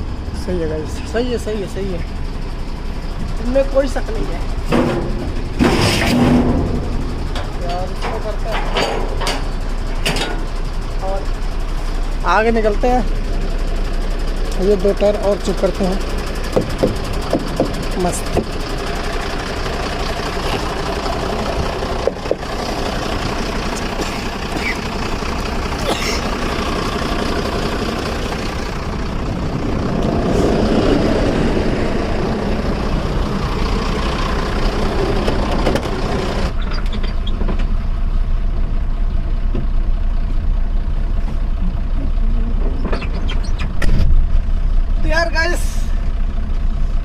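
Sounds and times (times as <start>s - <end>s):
diesel truck engine idling: 0.0s - 47.0s
outdoor noise: 0.0s - 47.0s.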